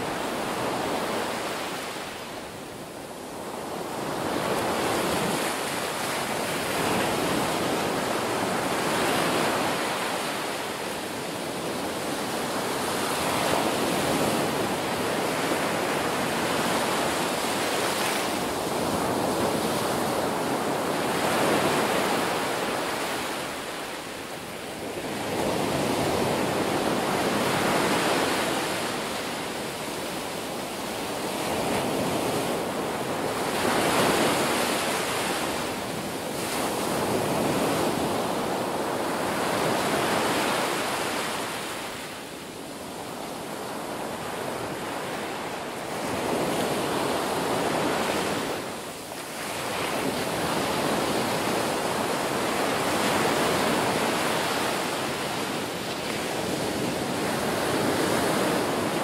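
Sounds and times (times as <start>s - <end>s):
small waves breaking on beach: 0.0s - 59.0s.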